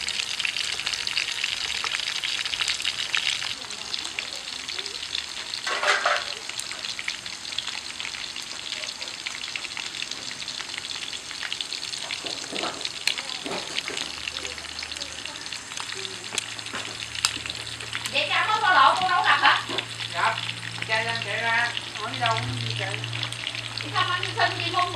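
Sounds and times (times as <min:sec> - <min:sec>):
oil sizzling and crackling: 0:00.0 - 0:24.9.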